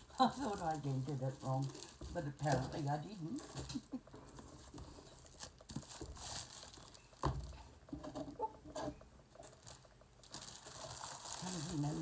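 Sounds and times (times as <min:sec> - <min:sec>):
parcel packaging rustling: 0:00.0 - 0:07.6, 0:09.4 - 0:12.0.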